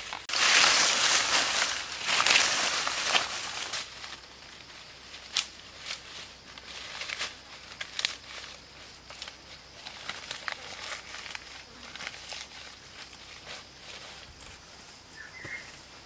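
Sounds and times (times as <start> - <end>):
leafy branches rustling: 0.0 - 16.0.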